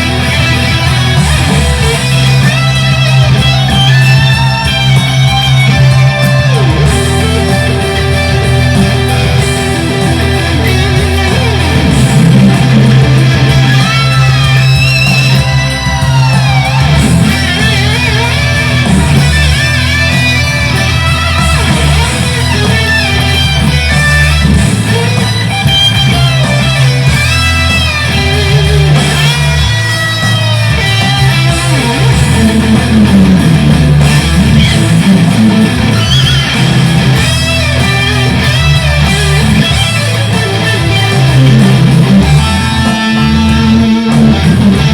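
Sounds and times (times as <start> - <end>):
electric guitar lead: 0.0 - 44.9.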